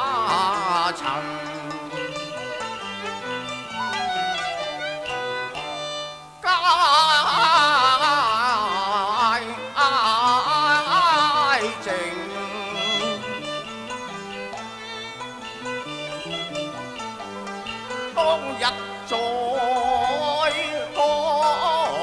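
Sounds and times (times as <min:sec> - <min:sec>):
high vocal line with vibrato: 0:00.0 - 0:15.0, 0:18.0 - 0:22.0
opera ensemble playing: 0:00.0 - 0:22.0.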